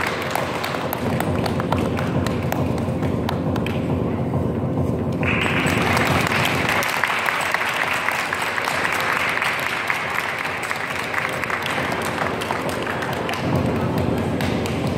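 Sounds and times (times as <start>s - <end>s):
audience clapping: 0.0s - 3.9s, 5.2s - 14.9s.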